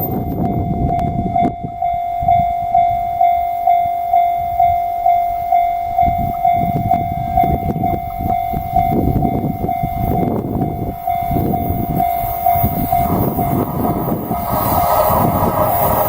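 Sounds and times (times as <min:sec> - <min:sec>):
freight train rumble and wheel clicks: 0:00.0 - 0:16.0
level crossing alarm ringing: 0:00.0 - 0:16.0.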